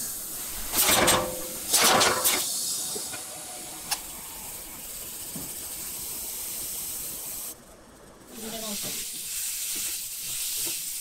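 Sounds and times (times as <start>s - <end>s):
food sizzling in a wok: 0.0s - 7.6s, 8.3s - 11.0s
laser marking hiss: 0.0s - 7.6s, 8.3s - 11.0s.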